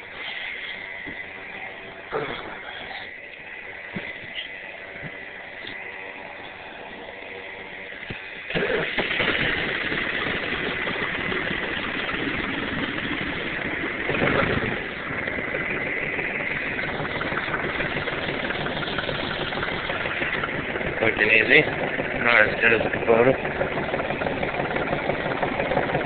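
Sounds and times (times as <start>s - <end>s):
tractor engine starting and idling: 0.0s - 26.0s.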